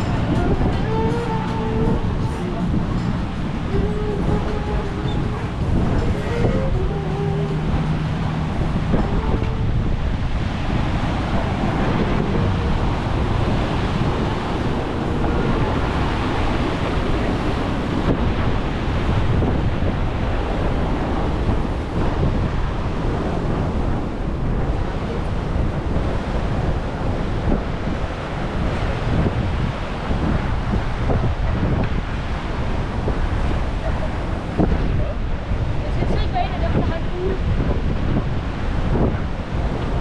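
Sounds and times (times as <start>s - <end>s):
sea surf breaking: 0.0s - 40.0s
wind buffeting microphone: 0.0s - 40.0s.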